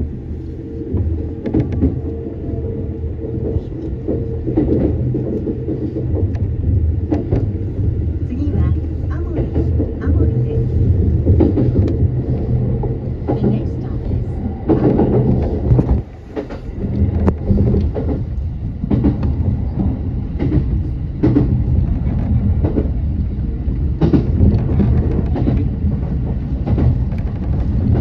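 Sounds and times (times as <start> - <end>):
train rumbling: 0.0 - 28.0
wheels clacking over rail joints: 1.0 - 28.0.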